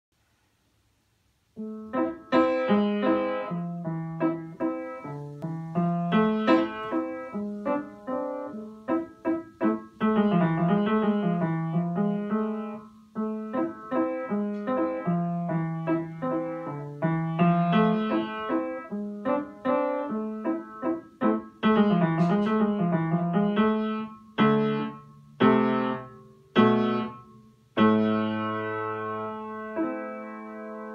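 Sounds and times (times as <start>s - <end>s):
upright piano waltz: 1.5s - 30.9s
piano chords struck: 1.6s - 30.9s.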